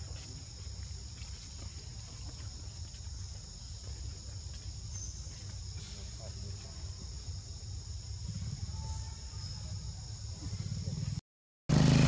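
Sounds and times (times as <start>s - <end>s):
insect chorus: 0.0s - 11.2s.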